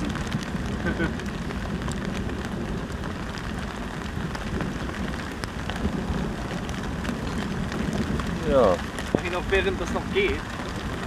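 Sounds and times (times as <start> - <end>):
heavy rain: 0.0 - 11.0
raindrops ticking: 0.0 - 11.0.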